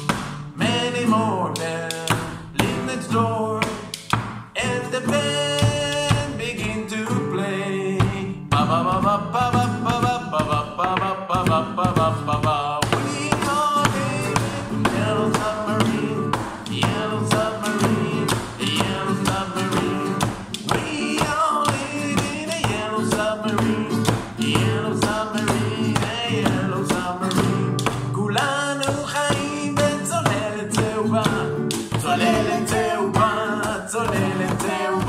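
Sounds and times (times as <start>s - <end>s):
voices singing along: 0.0s - 3.9s, 4.6s - 35.0s
rhythmic tapping: 0.0s - 7.2s, 7.9s - 35.0s
acoustic guitar strumming: 0.0s - 35.0s.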